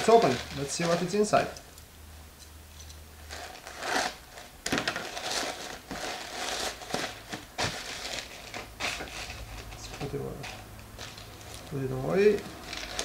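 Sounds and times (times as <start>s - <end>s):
plastic bag crinkling and tearing: 0.0s - 1.6s, 3.3s - 13.0s.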